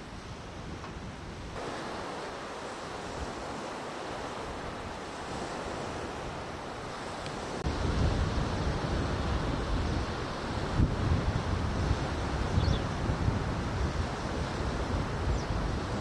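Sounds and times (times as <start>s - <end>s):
waves washing on shore: 0.0s - 16.0s
wind blowing: 0.0s - 16.0s
wind buffeting microphone: 0.0s - 16.0s.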